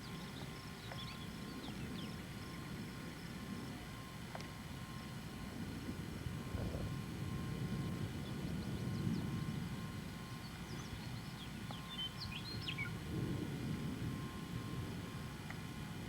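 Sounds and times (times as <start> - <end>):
wind rumbling on microphone: 0.0 - 11.4, 12.1 - 16.0.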